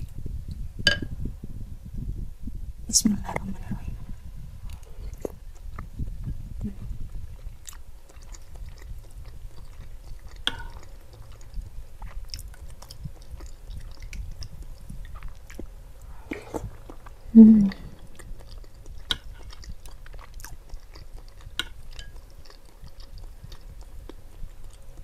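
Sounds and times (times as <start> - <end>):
chewing with wet mouth sounds: 4.6 - 25.0.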